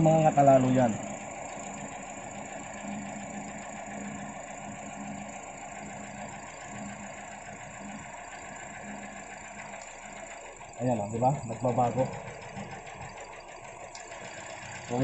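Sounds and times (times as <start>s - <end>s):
car engine idling unevenly: 0.0s - 15.0s.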